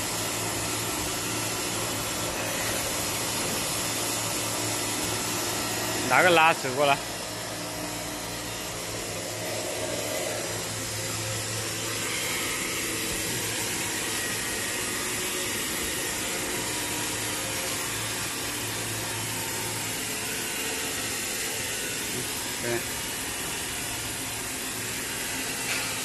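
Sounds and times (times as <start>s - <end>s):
band saw motor humming: 0.0s - 26.0s.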